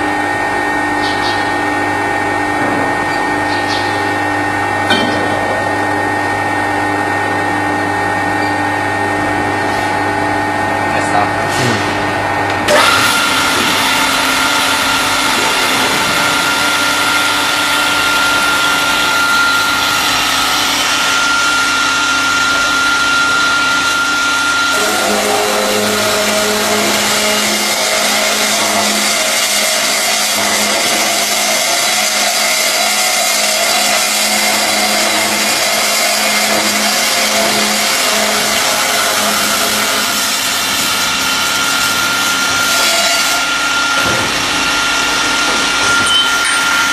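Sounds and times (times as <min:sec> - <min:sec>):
cutting machine whine: 0:00.0 - 0:46.9.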